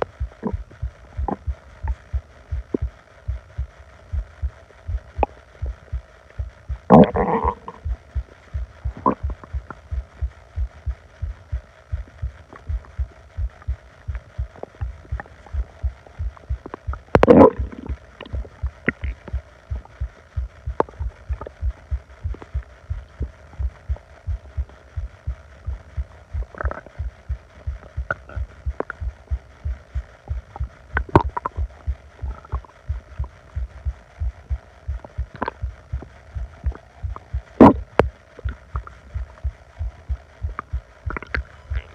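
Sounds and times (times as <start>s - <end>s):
stomach growling: 0.0s - 41.9s
stomach gurgles and rumbles: 0.0s - 41.9s.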